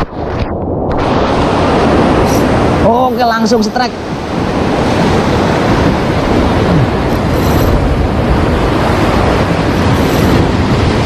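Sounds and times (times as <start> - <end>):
surf washing against shore: 0.0 - 11.0
wind buffeting microphone: 0.0 - 11.0.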